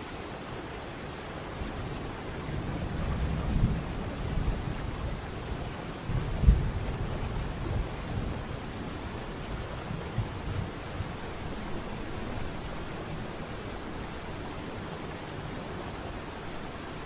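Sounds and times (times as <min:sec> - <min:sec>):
high-pitched insect trill: 0:00.0 - 0:17.0
rush of falling water: 0:00.0 - 0:17.0.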